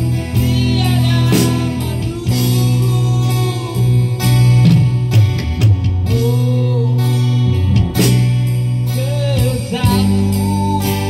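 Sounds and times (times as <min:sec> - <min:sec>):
live band music with guitar: 0:00.0 - 0:11.0.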